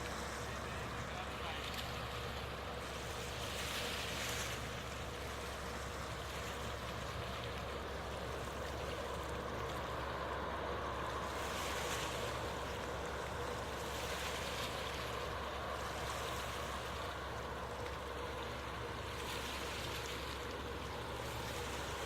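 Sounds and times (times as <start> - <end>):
low ship engine hum: 0.0 - 22.0
water rushing: 0.0 - 22.0.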